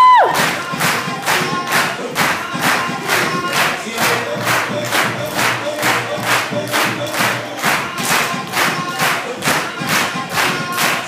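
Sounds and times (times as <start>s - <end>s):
dance music with choir: 0.0s - 11.0s.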